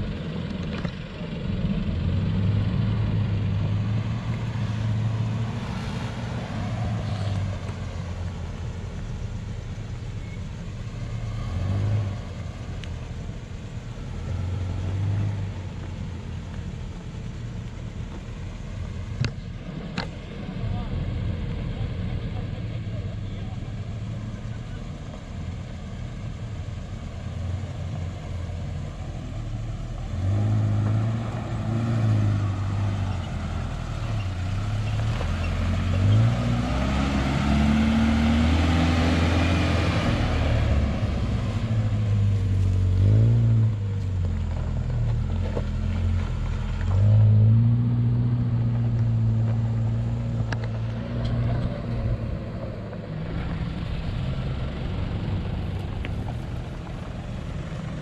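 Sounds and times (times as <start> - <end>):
suv engines revving: 0.0 - 58.0.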